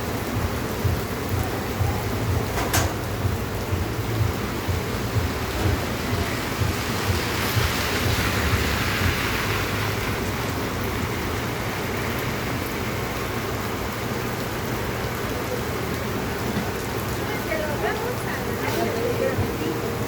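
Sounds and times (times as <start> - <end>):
heavy rain on a street: 0.0 - 20.0.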